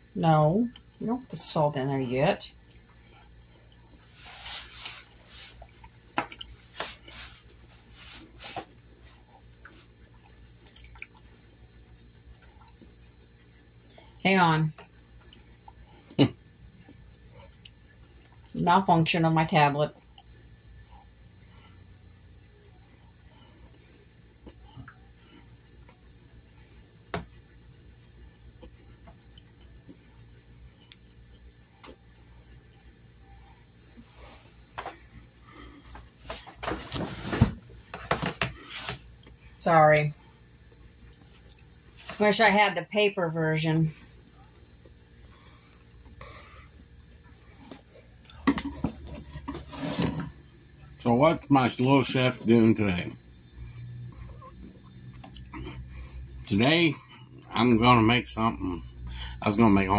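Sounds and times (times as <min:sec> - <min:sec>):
low room hum: 0:00.0 - 0:59.9.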